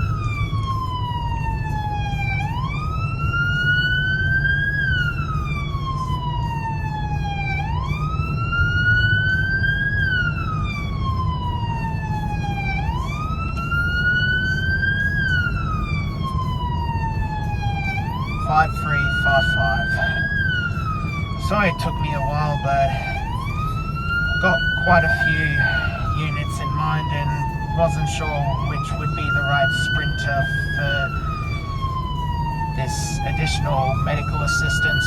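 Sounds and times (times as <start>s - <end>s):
emergency siren wailing: 0.0s - 35.0s
low road rumble: 0.0s - 35.0s.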